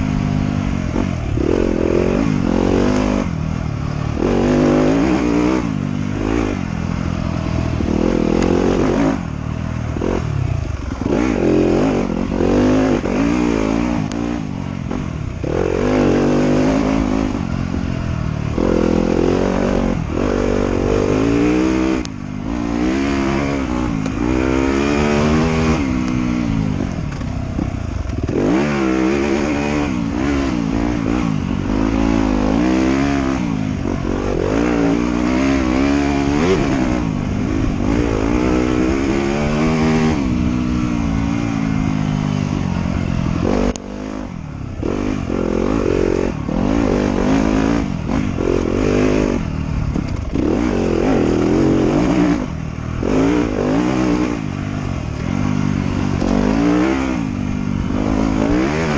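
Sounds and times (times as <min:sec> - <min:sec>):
off-road motorcycle engine revving: 0:00.0 - 0:58.9.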